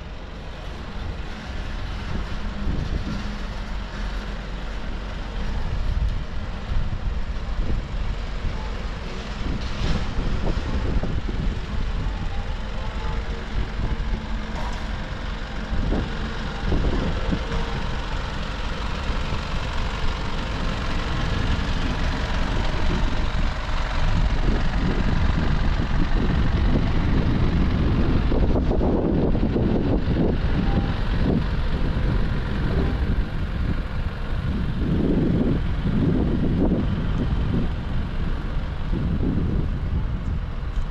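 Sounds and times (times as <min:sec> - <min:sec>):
low rumbling outdoor noise: 0:00.0 - 0:40.9
low wind gusts: 0:00.0 - 0:40.9.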